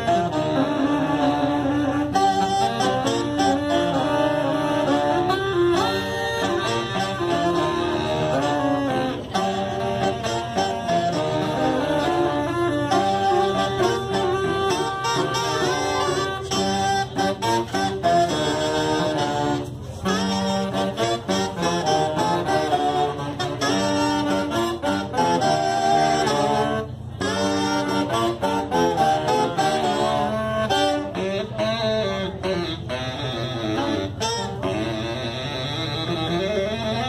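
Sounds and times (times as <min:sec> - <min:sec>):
saxophone quartet playing harmony: 0:00.0 - 0:37.0.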